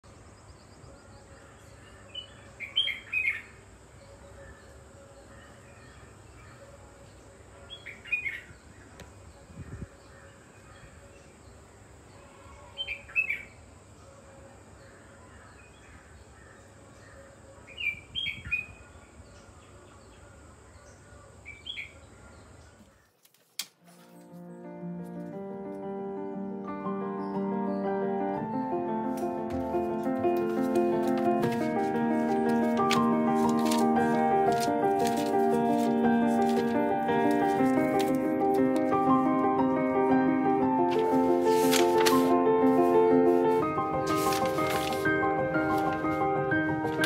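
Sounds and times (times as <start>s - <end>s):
outdoor background hiss: 0.0s - 47.0s
songbird chirping: 0.0s - 47.0s.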